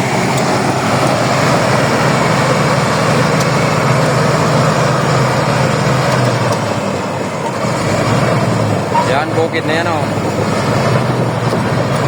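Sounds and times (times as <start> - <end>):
constant rushing noise: 0.0 - 12.0
heavy engine humming: 0.0 - 12.0.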